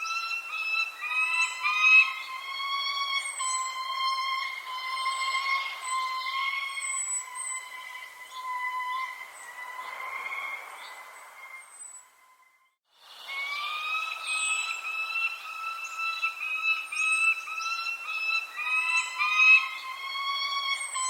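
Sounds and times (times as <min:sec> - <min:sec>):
repeated bird calls: 0:00.0 - 0:21.0.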